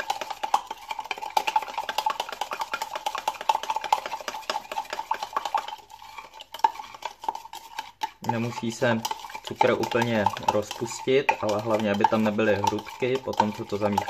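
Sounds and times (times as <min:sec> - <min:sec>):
spoon clicking and scraping jug: 0:00.0 - 0:14.0.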